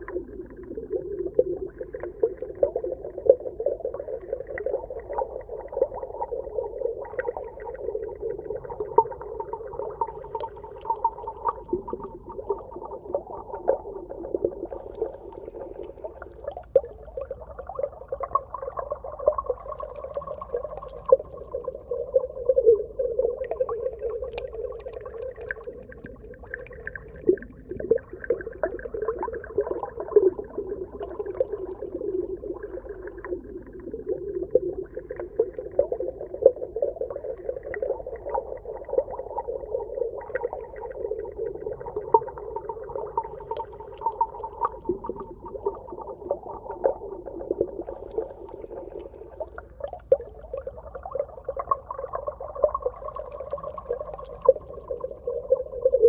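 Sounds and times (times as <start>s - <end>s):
small underwater pops and crackles: 0.0s - 22.7s, 23.4s - 56.0s
muffled underwater rumble: 0.0s - 56.0s.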